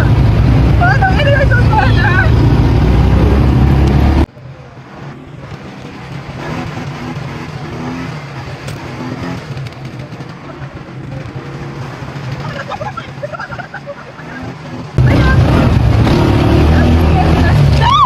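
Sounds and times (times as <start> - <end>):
small vehicle engine rumbling: 0.0 - 18.0
steady engine hum: 0.0 - 18.0.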